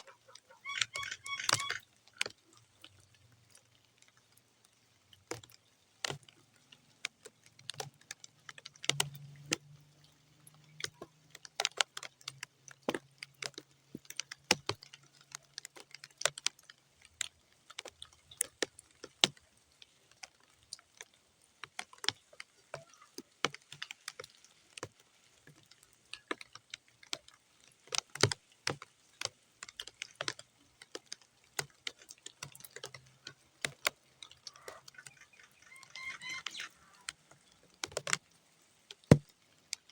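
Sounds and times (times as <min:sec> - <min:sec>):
raindrops tapping on wet ground: 0:00.0 - 0:39.9.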